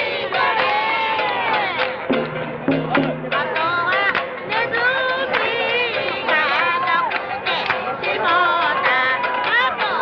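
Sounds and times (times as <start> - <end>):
people singing: 0.0 - 10.0.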